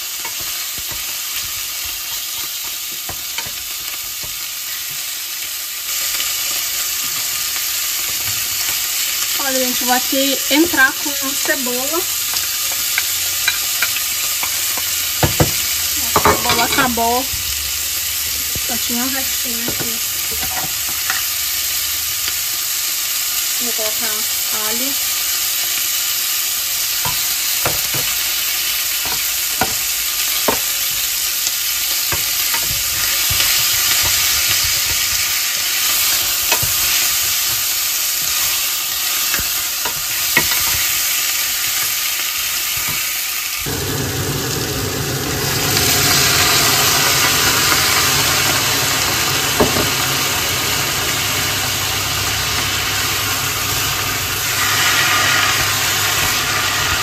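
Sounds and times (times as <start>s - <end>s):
food sizzling in a pot: 0.0s - 57.0s.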